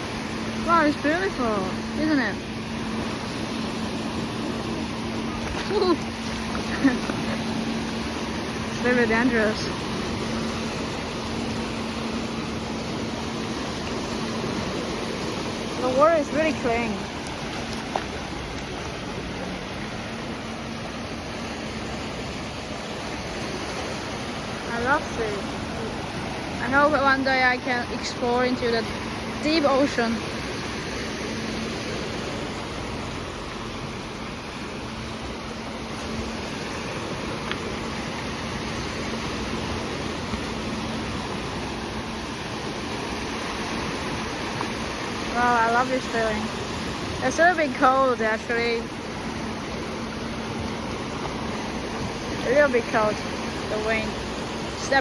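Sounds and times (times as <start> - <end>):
sea water washing on shore: 0.0 - 55.0
wind: 0.0 - 55.0.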